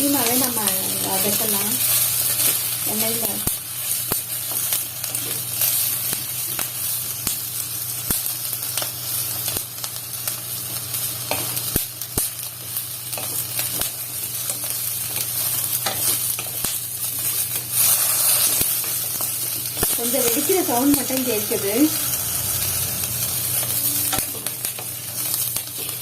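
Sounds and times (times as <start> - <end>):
sharp pops of frying: 0.0 - 22.2
chillies sizzling in hot oil: 0.0 - 26.0.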